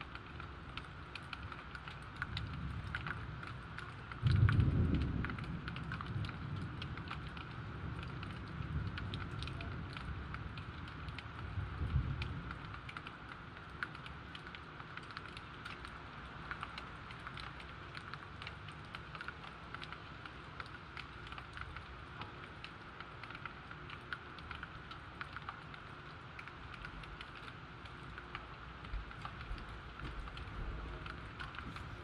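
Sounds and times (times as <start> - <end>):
raindrops ticking on hard surface: 0.0 - 32.0.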